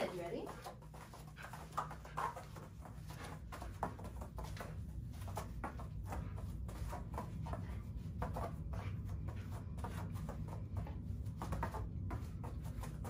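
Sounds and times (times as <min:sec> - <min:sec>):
shuffling and light taps on mats: 0:00.0 - 0:13.0
steady low hum: 0:00.0 - 0:13.0.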